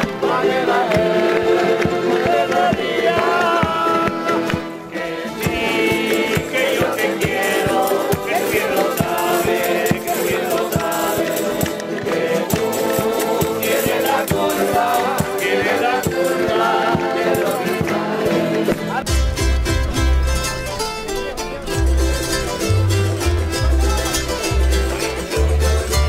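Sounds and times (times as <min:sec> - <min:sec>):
folk band playing: 0:00.0 - 0:26.0
people singing: 0:00.0 - 0:26.0.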